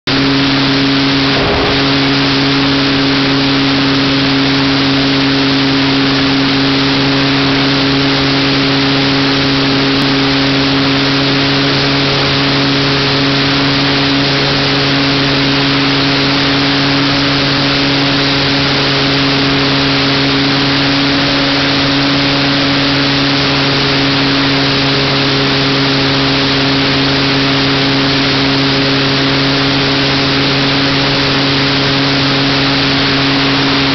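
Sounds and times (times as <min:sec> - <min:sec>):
model plane electric motor: 0:00.1 - 0:33.9.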